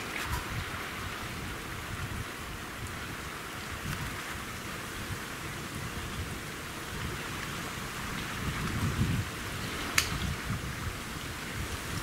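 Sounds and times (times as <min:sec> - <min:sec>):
small waves lapping on sand: 0:00.0 - 0:12.0
wind buffeting microphone: 0:00.0 - 0:12.0.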